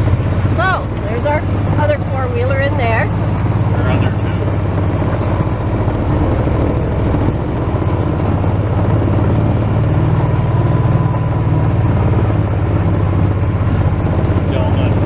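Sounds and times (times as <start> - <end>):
four-wheeler engine running: 0.0 - 15.0.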